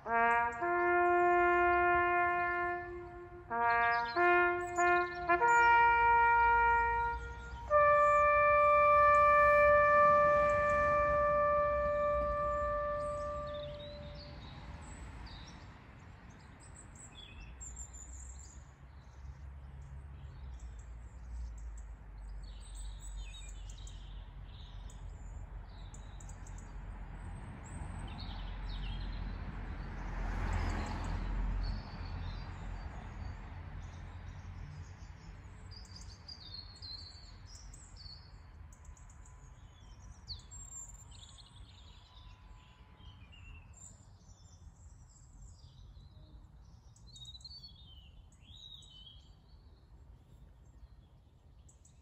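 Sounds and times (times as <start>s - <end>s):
low rumble of wind or traffic: 0.0s - 52.0s
songbirds chirping: 0.0s - 52.0s.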